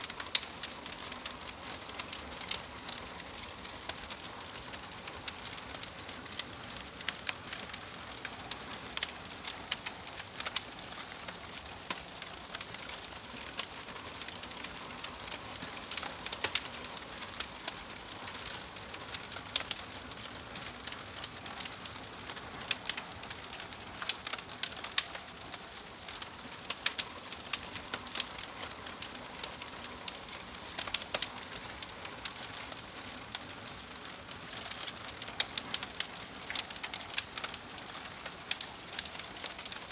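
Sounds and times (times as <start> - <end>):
fire hissing: 0.0 - 8.3, 9.0 - 39.8
fire crackling: 0.0 - 39.9.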